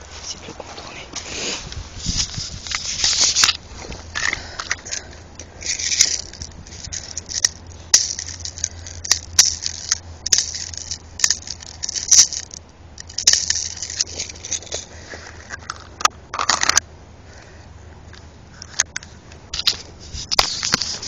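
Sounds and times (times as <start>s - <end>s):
plastic and metal clicks and scrapes: 2.0s - 16.8s, 18.6s - 21.0s.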